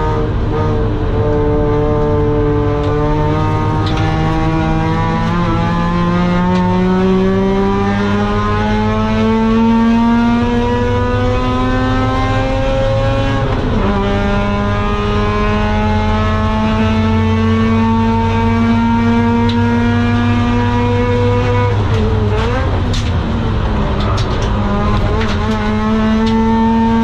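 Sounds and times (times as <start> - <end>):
rotary engine revving: 0.0 - 27.0.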